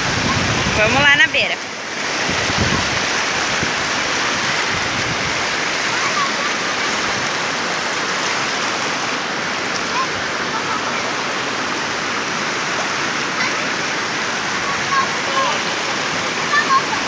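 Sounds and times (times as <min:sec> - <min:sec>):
river rushing over rock: 0:00.0 - 0:17.0.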